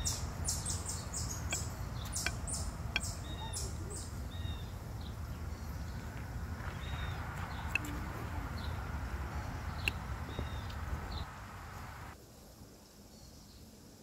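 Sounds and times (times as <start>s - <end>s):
high bird chirps: 0.0s - 12.1s
low outdoor rumble: 0.0s - 12.2s.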